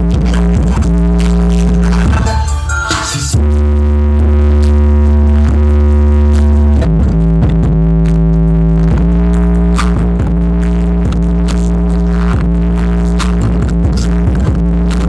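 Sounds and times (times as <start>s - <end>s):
electronic song with deep bass: 0.0s - 15.0s.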